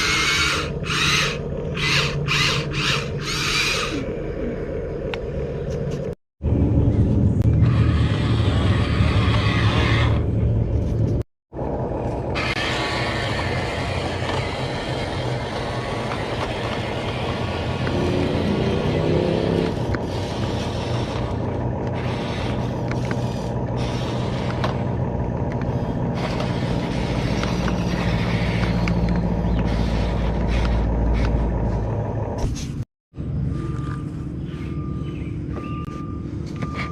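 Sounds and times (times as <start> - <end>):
model bulldozer running: 0.0 - 5.5, 6.5 - 32.4.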